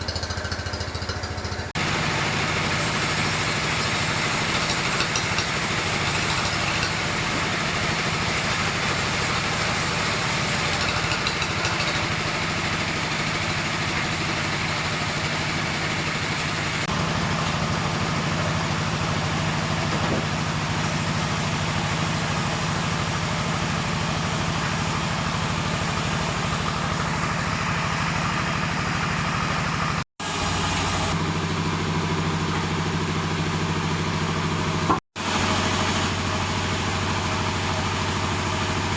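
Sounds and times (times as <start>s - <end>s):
sawmill saw whirring: 0.0s - 38.9s.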